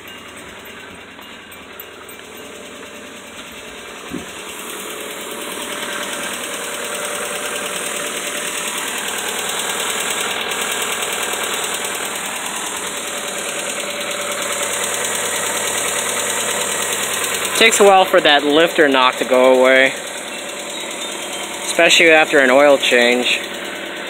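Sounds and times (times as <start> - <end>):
car engine idling: 0.0 - 24.0
rapid valvetrain ticking: 0.0 - 24.0.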